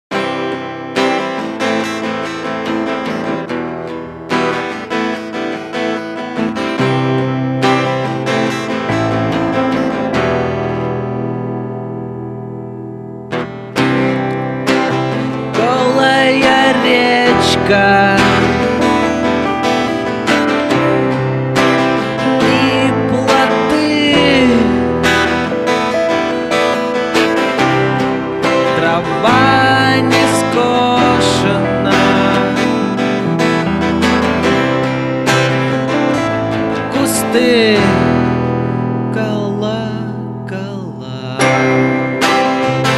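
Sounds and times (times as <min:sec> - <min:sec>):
rock guitar chords strummed: 0:00.1 - 0:42.9.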